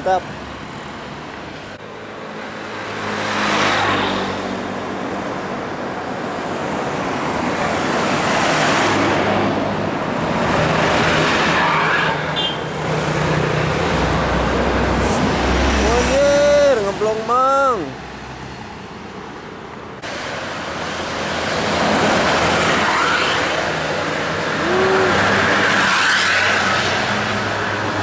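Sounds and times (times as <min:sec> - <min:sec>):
buses passing: 0:00.0 - 0:28.0
cars passing: 0:00.0 - 0:28.0.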